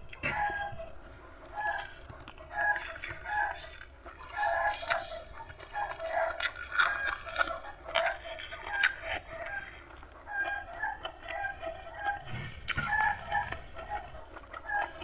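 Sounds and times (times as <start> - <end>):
chickens clucking: 0.0 - 15.0
crunchy chewing of food: 0.0 - 15.0.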